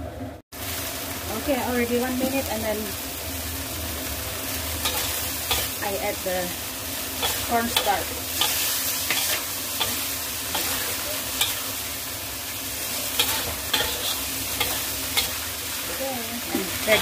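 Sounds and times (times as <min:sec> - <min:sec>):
food sizzling in a pan: 0:00.5 - 0:17.0.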